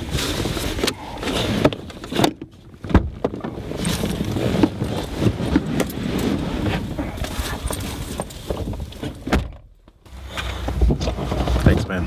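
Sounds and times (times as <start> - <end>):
vehicle cabin noise on dirt track: 0.0 - 12.0
knocks and rattles from bumps: 0.3 - 10.0, 10.6 - 12.0.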